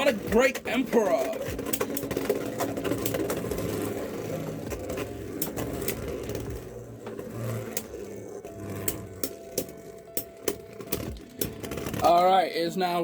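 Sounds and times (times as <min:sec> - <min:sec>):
spinning tops whirring and scraping: 0:00.0 - 0:12.4.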